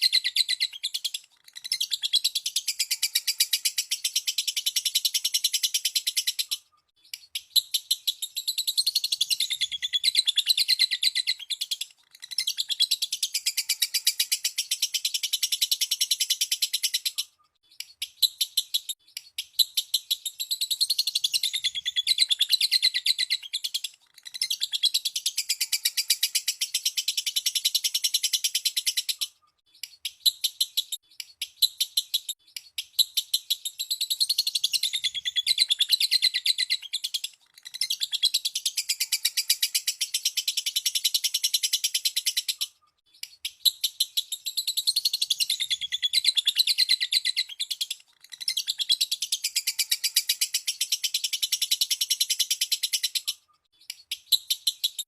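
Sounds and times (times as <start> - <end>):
lovebird chattering chirps: 0.0 - 29.3, 29.9 - 55.0.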